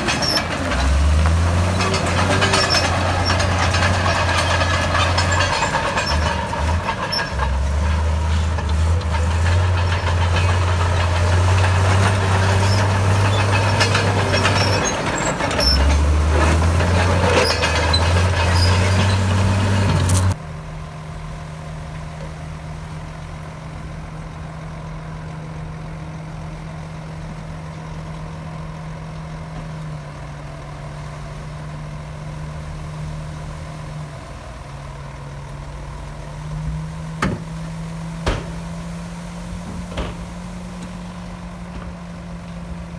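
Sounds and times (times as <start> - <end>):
heavy diesel machinery engine: 0.0 - 42.9.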